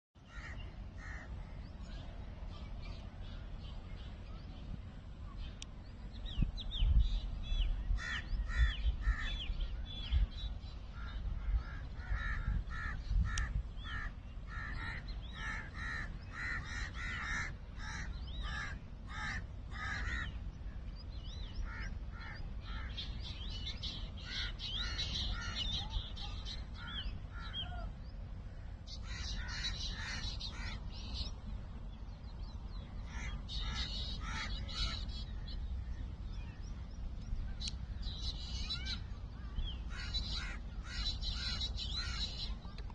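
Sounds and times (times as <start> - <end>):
flock of birds calling: 0.2 - 4.5, 7.9 - 20.5, 21.3 - 31.4, 32.6 - 42.9.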